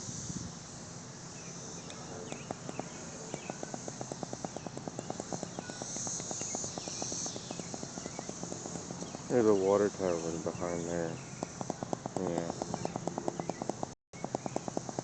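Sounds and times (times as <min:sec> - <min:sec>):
cicadas buzzing: 0:00.0 - 0:15.0
rapid even ticking: 0:02.3 - 0:15.0.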